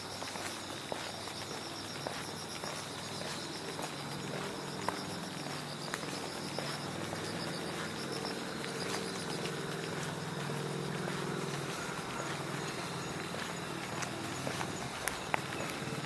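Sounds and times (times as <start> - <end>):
footsteps on pavement: 0.0 - 16.0
insects chirping: 0.0 - 16.0.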